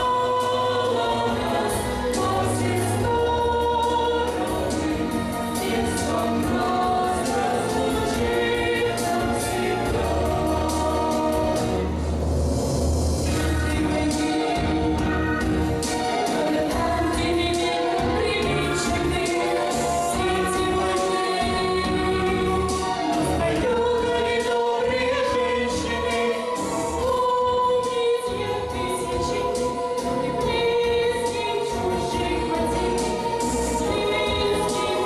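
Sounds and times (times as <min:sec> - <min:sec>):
choir singing long notes: 0:00.0 - 0:35.0
instrumental backing: 0:00.0 - 0:35.0.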